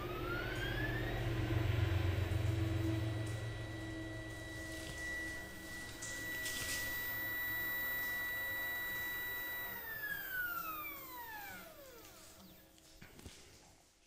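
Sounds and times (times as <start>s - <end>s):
stepper motors whining: 0.0s - 12.8s.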